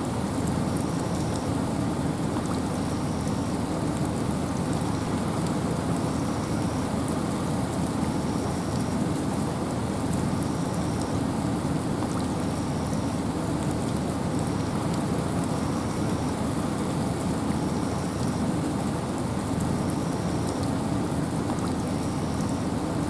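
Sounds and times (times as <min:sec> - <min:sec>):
rain hissing in forest: 0:00.0 - 0:23.0.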